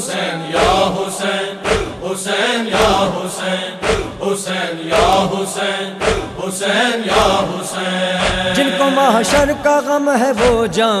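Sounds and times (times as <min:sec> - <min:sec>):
men chanting: 0:00.0 - 0:11.0
rhythmic chest-beating: 0:00.0 - 0:11.0.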